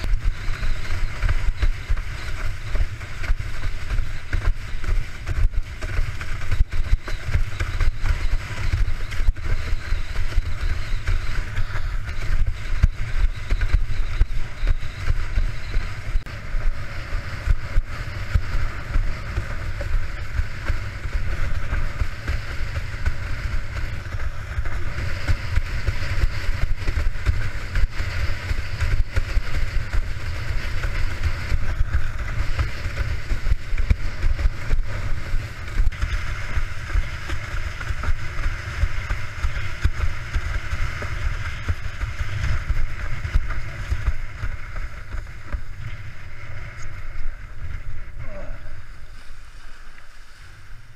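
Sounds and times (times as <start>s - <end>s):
water rushing under board: 0.0s - 50.9s
wind buffeting microphone: 0.0s - 50.9s.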